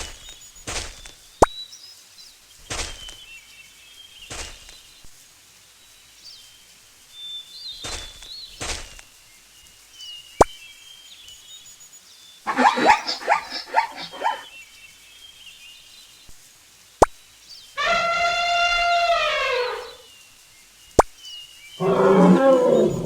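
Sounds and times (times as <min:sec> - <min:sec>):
birds chirping: 0:00.0 - 0:05.2, 0:05.8 - 0:16.4, 0:17.1 - 0:23.0.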